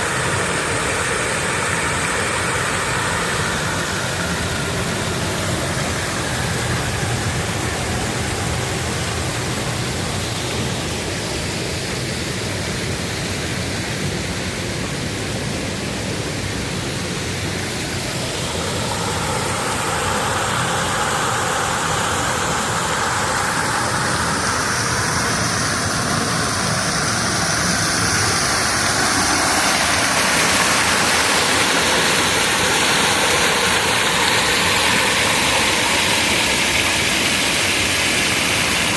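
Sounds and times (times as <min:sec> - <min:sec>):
creek water rushing over rapids: 0:00.0 - 0:38.9.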